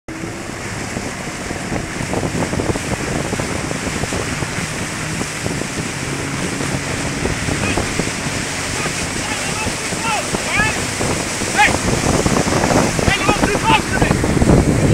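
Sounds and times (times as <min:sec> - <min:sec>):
churning wake water: 0:00.1 - 0:14.9
low boat engine hum: 0:00.1 - 0:14.9
wind buffeting microphone: 0:00.1 - 0:14.9.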